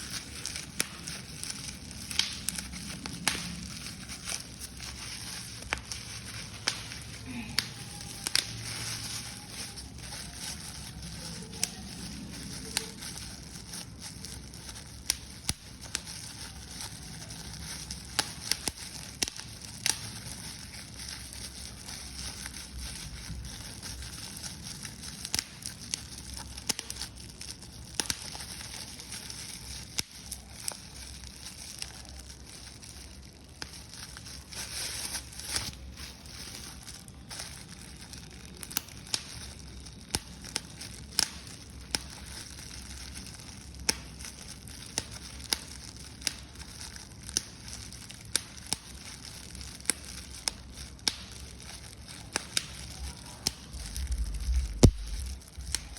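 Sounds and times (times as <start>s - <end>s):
paper crumpling: 0.0s - 55.9s.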